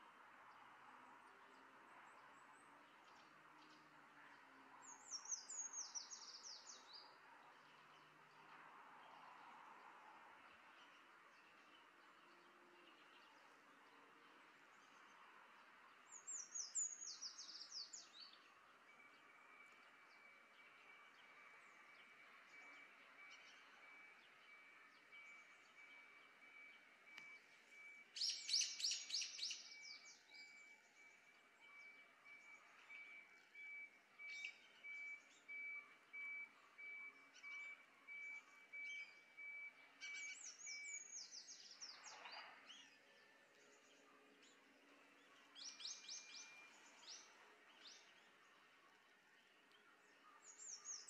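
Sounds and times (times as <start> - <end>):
small birds chirping: 0.5 - 51.0.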